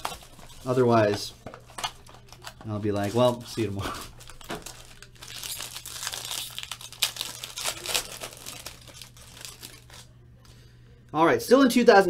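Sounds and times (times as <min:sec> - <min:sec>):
foil pack tearing and crinkling: 0:00.0 - 0:10.1.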